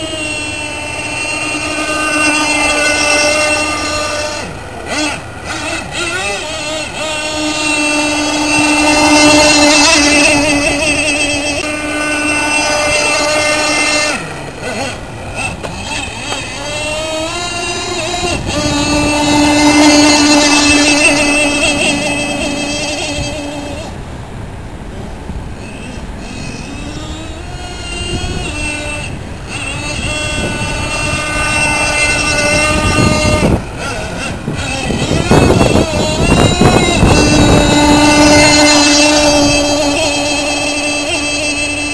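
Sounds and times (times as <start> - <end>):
small two-stroke engine running: 0.0 - 41.9.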